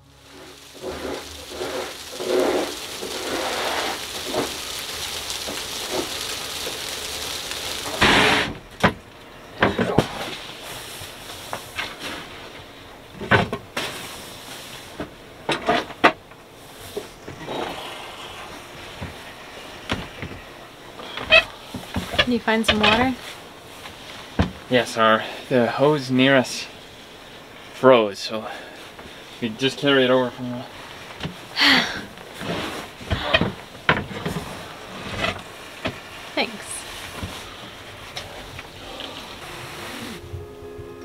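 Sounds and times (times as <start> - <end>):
steady outdoor hiss: 0.0 - 41.0.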